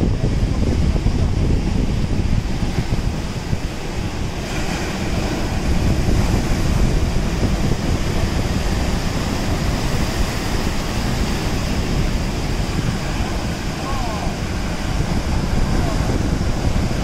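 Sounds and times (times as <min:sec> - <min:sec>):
wind buffeting microphone: 0:00.0 - 0:17.0
sea waves breaking on rocks: 0:00.1 - 0:17.0.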